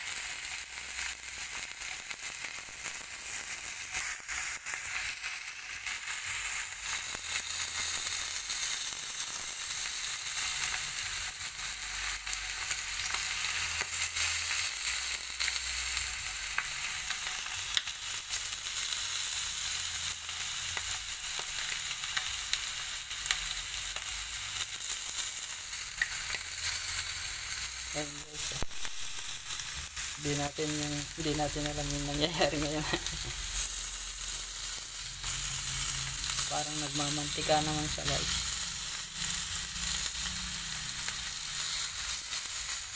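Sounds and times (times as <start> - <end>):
steak sizzling in oil: 0.0 - 42.9.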